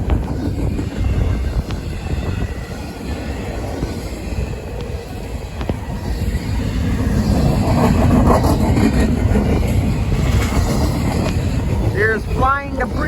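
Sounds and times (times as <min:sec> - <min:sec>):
freight train rumbling past: 0:00.0 - 0:13.0
wind buffeting microphone: 0:00.0 - 0:13.0.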